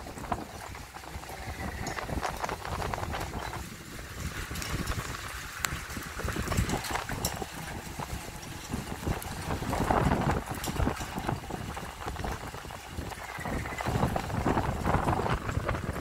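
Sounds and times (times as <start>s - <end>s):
sharp clicks and crackles: 0.0s - 16.0s
storm wind buffeting microphone: 0.0s - 16.0s.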